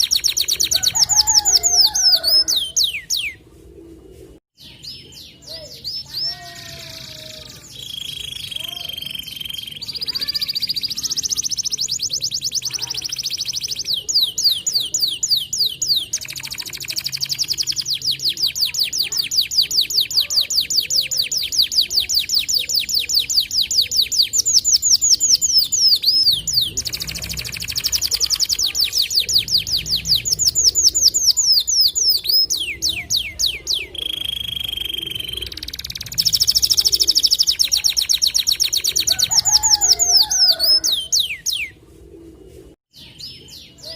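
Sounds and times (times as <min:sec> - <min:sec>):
canary singing: 0:00.0 - 0:03.4, 0:04.6 - 0:41.8.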